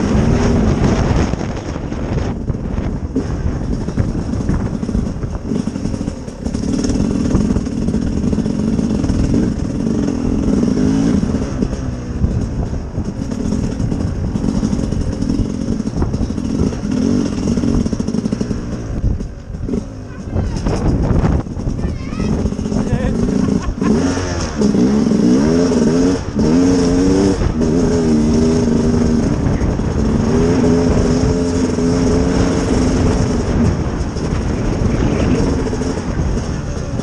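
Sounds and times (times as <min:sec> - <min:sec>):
two-stroke motorcycle engine: 0:00.0 - 0:37.0.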